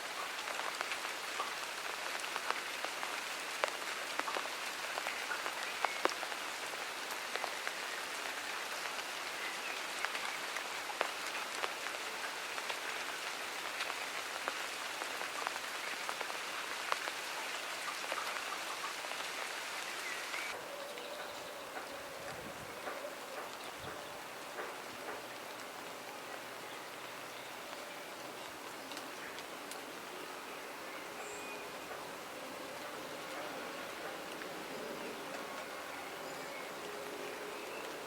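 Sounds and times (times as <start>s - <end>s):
raindrops ticking on surfaces: 0.0s - 38.0s
steady rain hiss: 0.0s - 38.0s.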